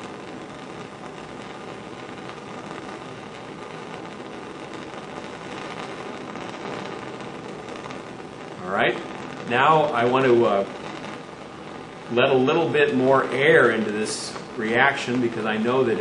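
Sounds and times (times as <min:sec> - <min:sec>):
gas flame hissing: 0:00.0 - 0:16.0.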